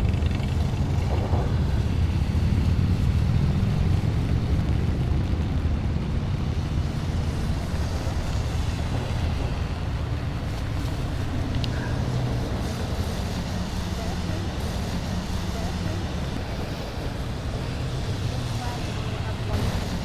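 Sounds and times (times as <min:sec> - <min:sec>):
road vehicles rumbling: 0:00.0 - 0:20.0.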